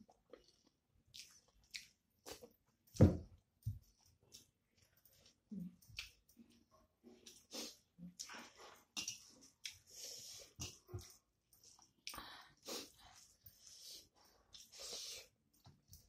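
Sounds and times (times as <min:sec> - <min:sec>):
person chewing food: 0:00.0 - 0:02.9, 0:03.6 - 0:16.0.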